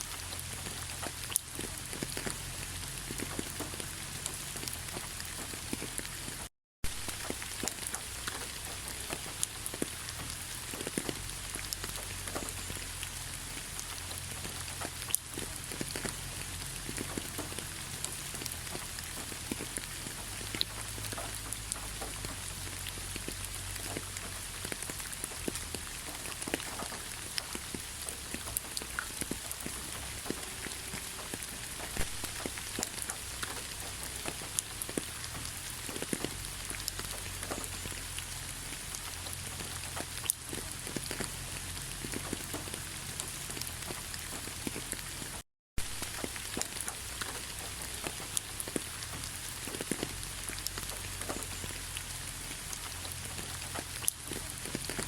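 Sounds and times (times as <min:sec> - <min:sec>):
rain drops ticking on a surface: 0:00.0 - 0:55.0.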